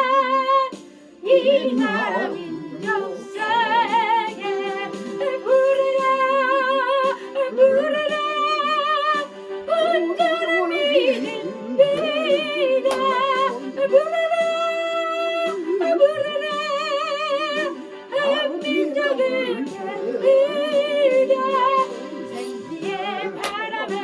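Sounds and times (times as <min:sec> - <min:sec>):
gospel accompaniment track: 0:00.0 - 0:24.0.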